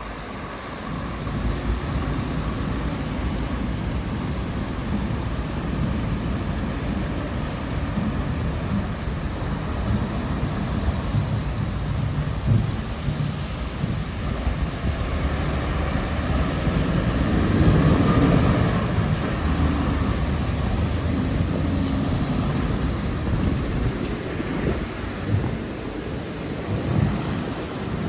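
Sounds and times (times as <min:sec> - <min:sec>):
diesel truck engines pulling away: 0:00.0 - 0:27.3.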